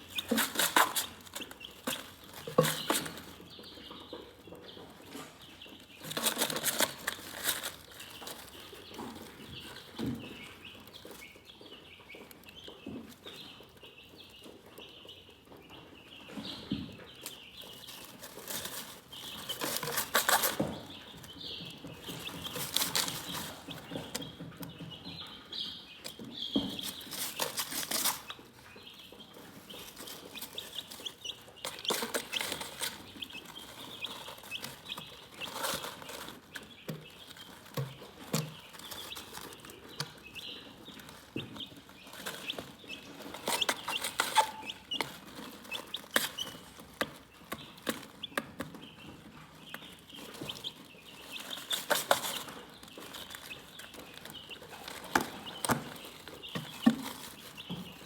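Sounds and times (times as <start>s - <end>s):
chickens clucking and chirping: 0.0s - 58.0s.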